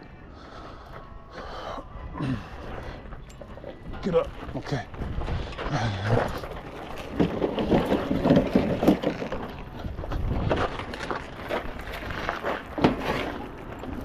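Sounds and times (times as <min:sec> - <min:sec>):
metal frame and wheels clattering: 0:02.4 - 0:14.0.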